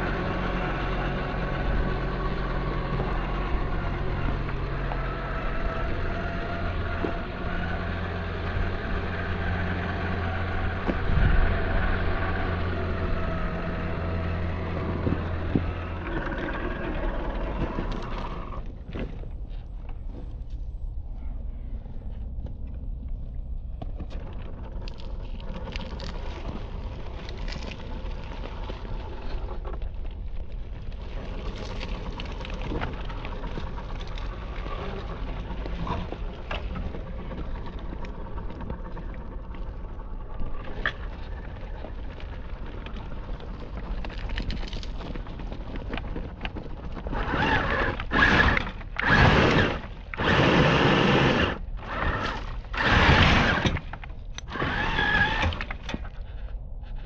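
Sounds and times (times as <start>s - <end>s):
electric motor and gears whining: 0.0s - 21.2s, 22.0s - 57.0s
faint crunching: 0.0s - 57.0s
low steady rumble: 0.0s - 57.0s.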